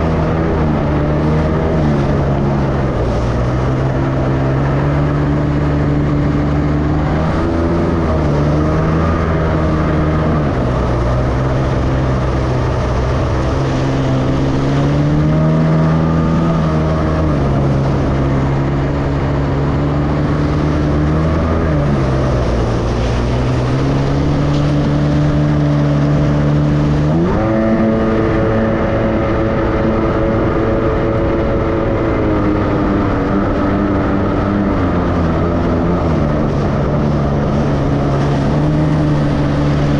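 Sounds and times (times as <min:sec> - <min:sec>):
jet ski engine revving: 0:00.0 - 0:39.9.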